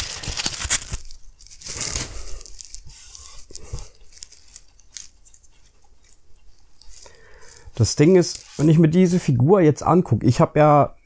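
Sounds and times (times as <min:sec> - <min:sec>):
styrofoam and plastic crinkling: 0:00.0 - 0:09.4.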